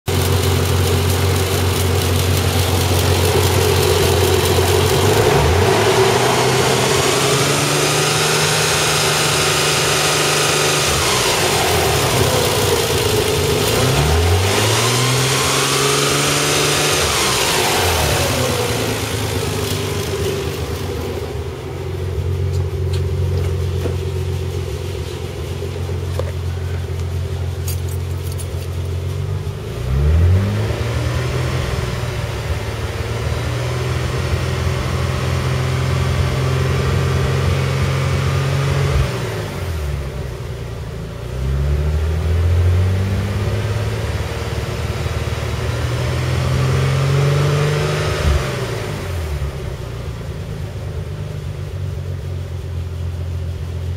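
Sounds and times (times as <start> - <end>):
car engine revving: 0.1 - 51.2.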